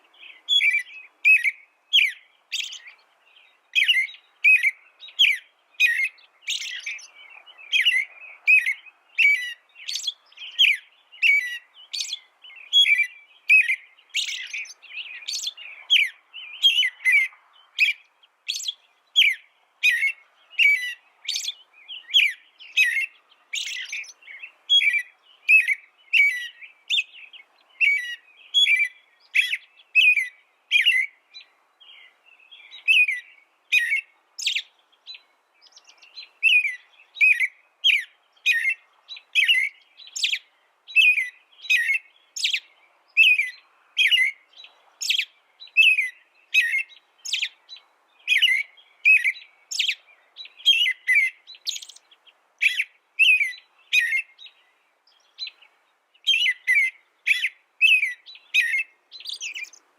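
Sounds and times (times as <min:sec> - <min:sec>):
small songbird chirping: 0:00.0 - 0:59.9.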